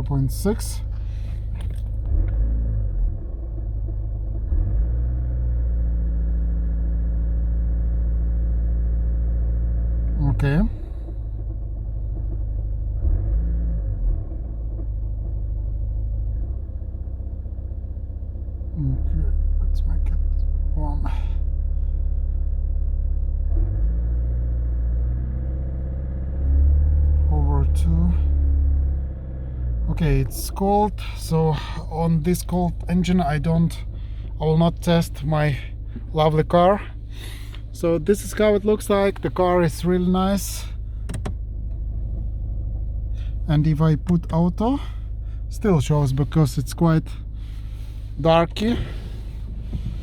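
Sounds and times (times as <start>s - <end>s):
diesel engine rumble in cabin: 0.0s - 50.0s.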